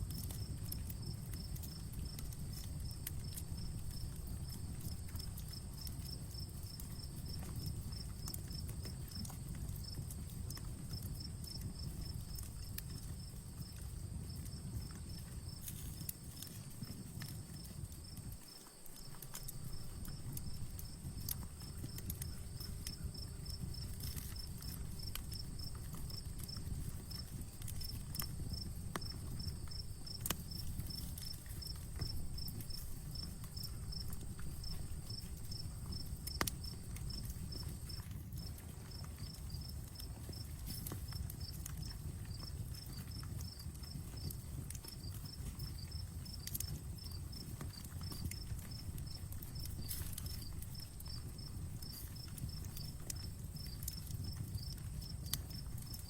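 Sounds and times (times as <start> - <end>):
campfire crackling and popping: 0.0 - 56.0
insect chirping: 0.1 - 56.0.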